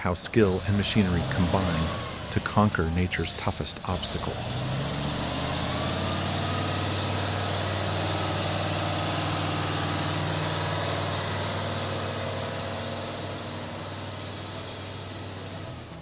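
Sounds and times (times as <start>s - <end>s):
truck engine running under load: 0.0s - 16.0s.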